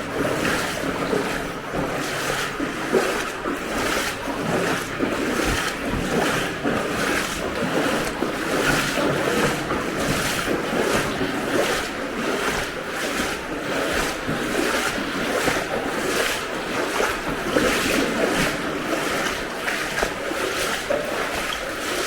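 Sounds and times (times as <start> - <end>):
footsteps wading through water: 0.0 - 22.0.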